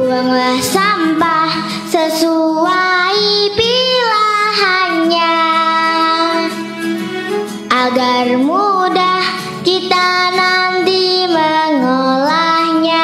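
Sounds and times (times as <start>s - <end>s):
child singing: 0.0s - 6.6s, 7.7s - 13.0s
instrumental backing music: 0.0s - 13.0s.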